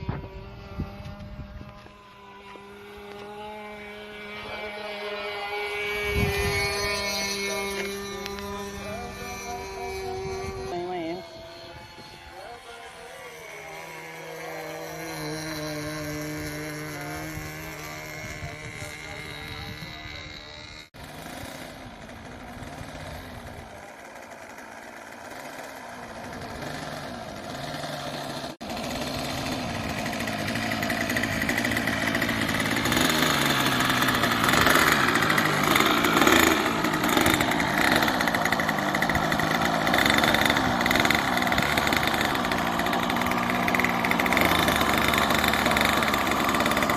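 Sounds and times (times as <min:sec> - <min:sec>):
model plane engine running: 0:00.0 - 0:46.9.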